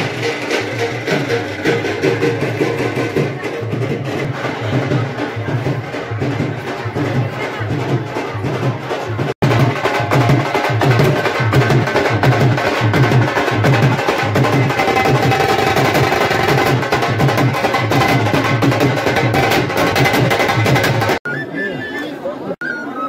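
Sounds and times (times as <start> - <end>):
barrel drums beaten with sticks: 0.0 - 21.2.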